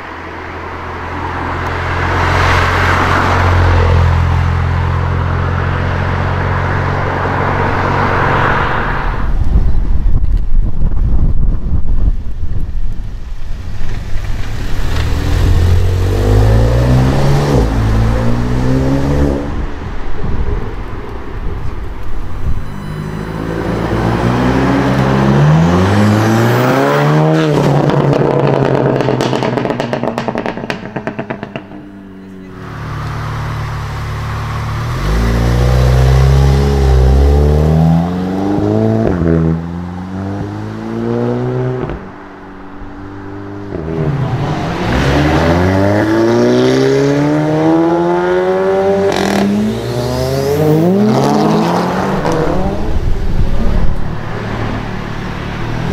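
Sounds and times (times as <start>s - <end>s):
car engines accelerating hard: 0.0s - 9.6s, 13.7s - 55.9s.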